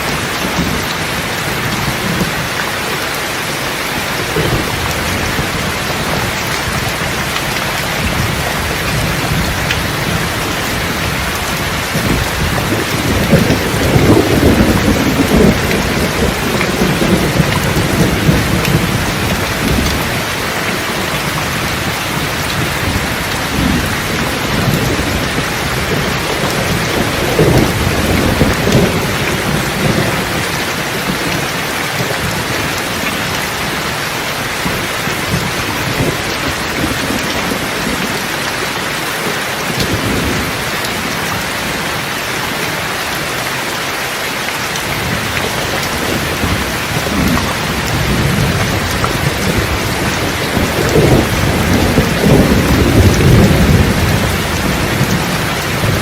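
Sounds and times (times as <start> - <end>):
thunder rumbling: 0.0 - 42.1, 44.8 - 56.0
steady rain falling: 0.0 - 56.0.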